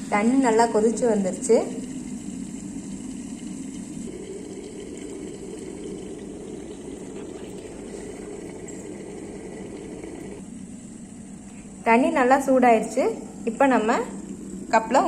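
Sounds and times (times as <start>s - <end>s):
water boiling in kettle: 0.0s - 15.0s.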